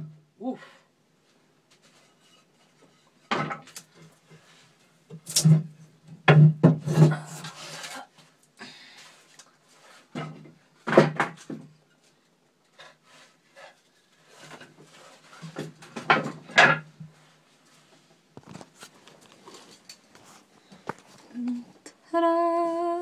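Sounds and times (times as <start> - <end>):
wooden strips scraping and knocking: 1.7 - 8.4, 9.1 - 21.2.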